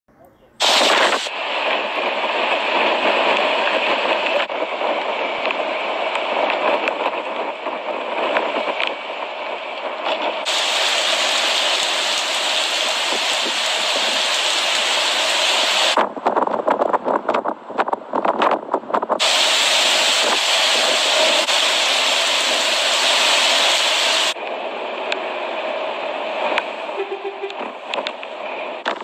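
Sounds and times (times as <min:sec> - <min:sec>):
heavy rain hissing: 0:00.6 - 0:16.0, 0:19.2 - 0:28.8.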